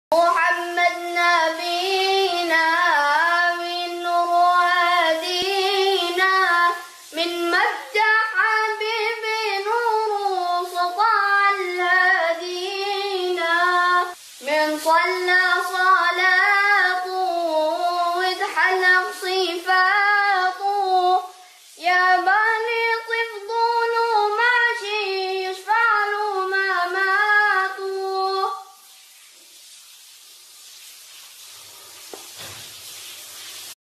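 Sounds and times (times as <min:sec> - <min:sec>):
child singing slow melody: 0:00.1 - 0:28.8.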